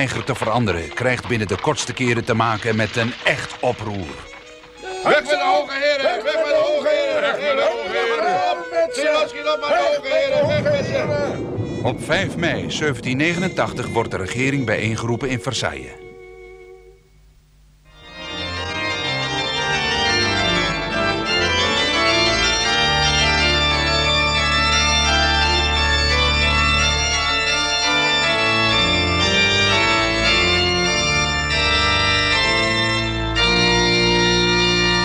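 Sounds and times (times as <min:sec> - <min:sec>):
organ music: 0:00.0 - 0:35.0.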